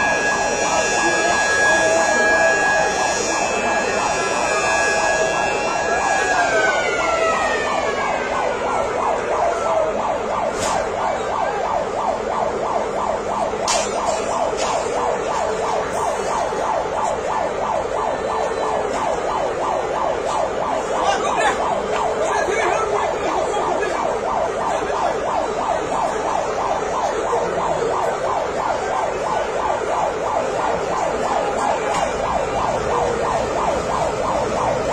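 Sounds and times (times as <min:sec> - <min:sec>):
emergency siren: 0:00.0 - 0:34.9.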